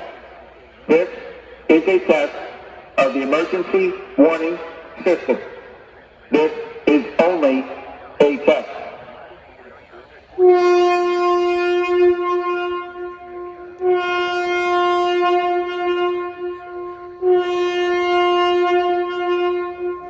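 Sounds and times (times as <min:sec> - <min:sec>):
horn-like warning alarm: 0:00.0 - 0:20.0.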